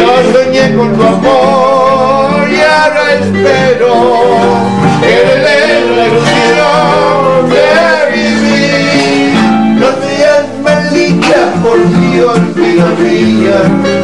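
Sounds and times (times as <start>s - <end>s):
classical guitar: 0.0s - 14.0s
electronic keyboard: 0.0s - 14.0s.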